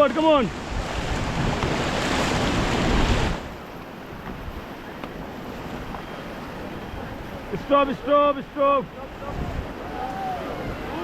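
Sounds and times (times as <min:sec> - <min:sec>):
river water rushing and splashing: 0:00.0 - 0:11.0
wind buffeting microphone: 0:00.5 - 0:07.7, 0:09.1 - 0:11.0.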